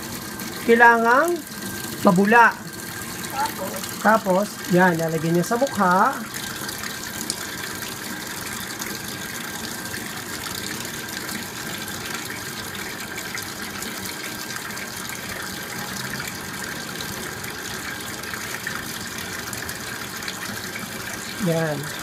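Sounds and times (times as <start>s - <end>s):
water running: 0.0s - 22.0s.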